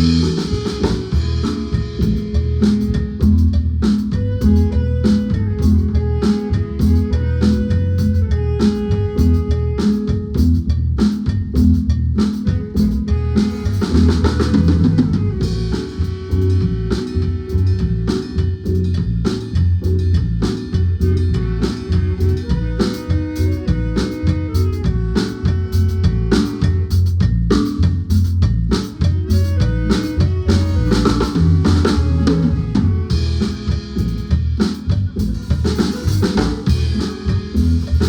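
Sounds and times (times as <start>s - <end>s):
drum kit beat: 0.0s - 38.0s
marimba band playing: 0.0s - 38.0s.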